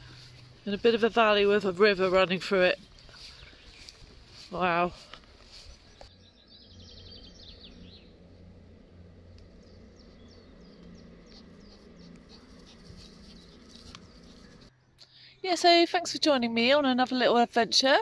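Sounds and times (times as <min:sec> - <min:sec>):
low steady rumble: 0:00.0 - 0:14.8
birdsong trill: 0:00.0 - 0:15.3.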